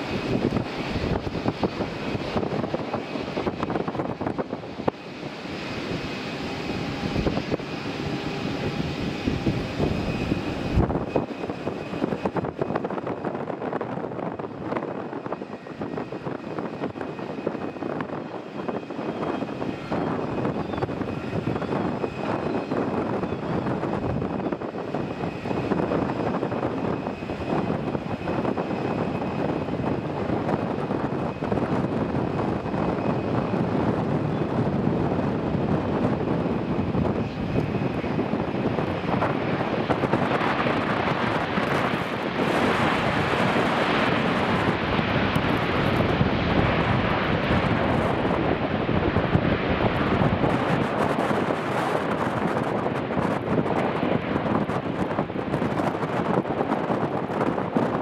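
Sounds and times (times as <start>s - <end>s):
jet engines rumbling and whining: 0.0s - 58.0s.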